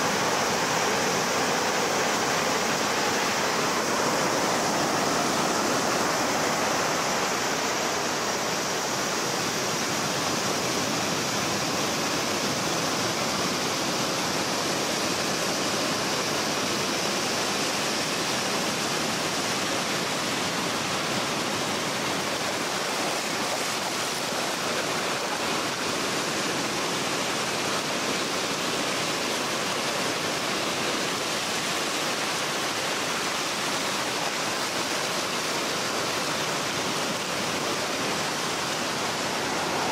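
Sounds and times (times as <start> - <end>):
waves washing on sandy beach: 0.0 - 39.9.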